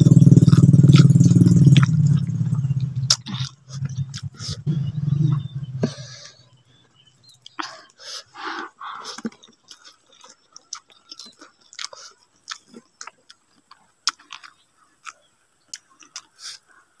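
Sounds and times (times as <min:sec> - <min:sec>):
person chewing with mouth clicks: 0:00.0 - 0:06.2, 0:07.0 - 0:16.8.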